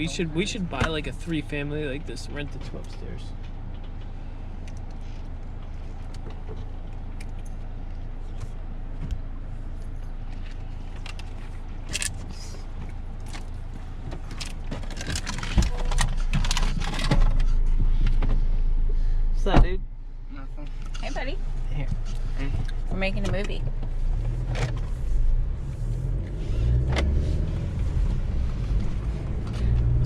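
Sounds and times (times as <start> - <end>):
car rumble from inside cabin: 0.0 - 30.0.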